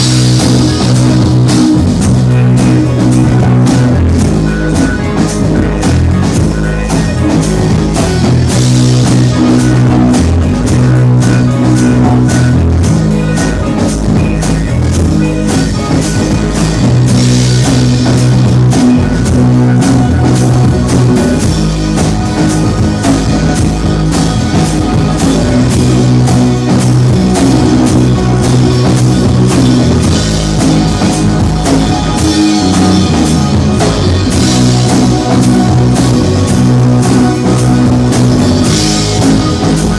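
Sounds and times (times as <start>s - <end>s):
bass guitar long low notes: 0.0s - 39.9s
fast busy drumming: 0.0s - 39.9s
guitars: 0.0s - 39.9s.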